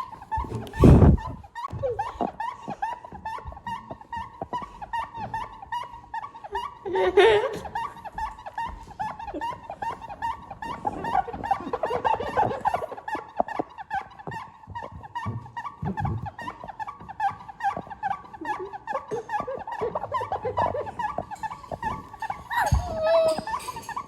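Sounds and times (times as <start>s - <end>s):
rapid high squeaks: 0.0s - 24.0s.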